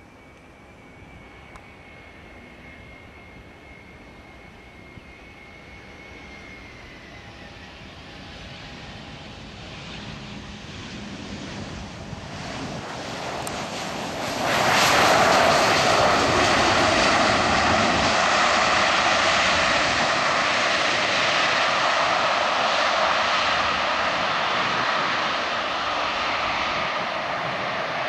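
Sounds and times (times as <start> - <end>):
jet engines at high power: 0.0 - 28.0.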